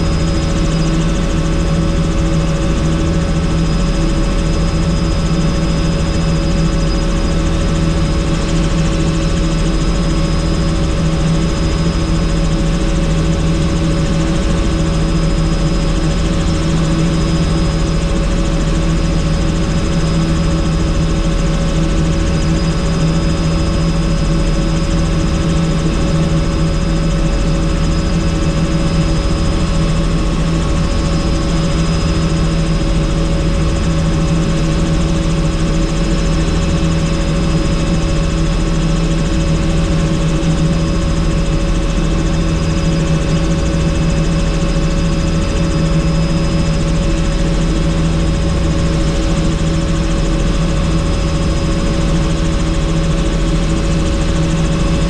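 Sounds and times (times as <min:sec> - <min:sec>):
helicopter rotor and engine drone: 0:00.0 - 0:55.0.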